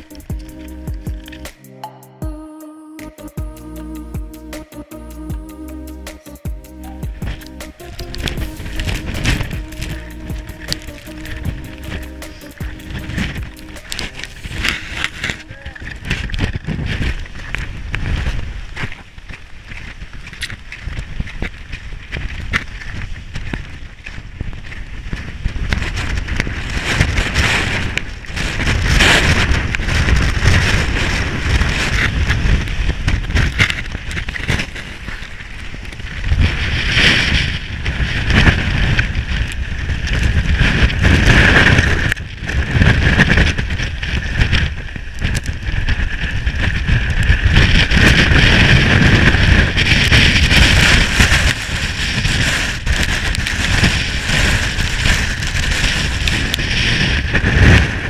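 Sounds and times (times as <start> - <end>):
strong wind buffeting microphone: 5.4 - 58.0.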